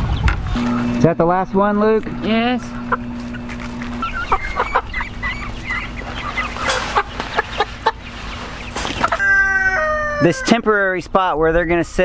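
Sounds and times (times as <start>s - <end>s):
chickens clucking and cheeping: 0.0s - 12.0s.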